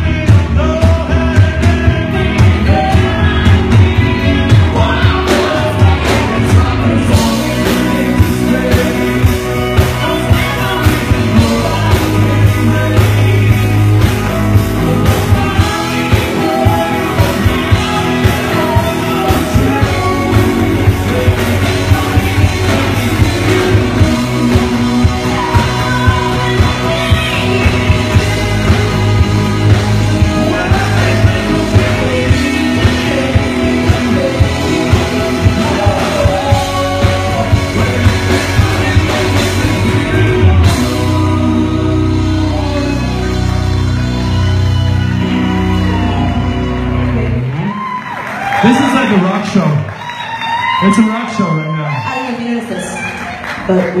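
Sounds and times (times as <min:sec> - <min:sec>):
person singing: 0:00.0 - 0:48.6
live band playing: 0:00.0 - 0:54.0.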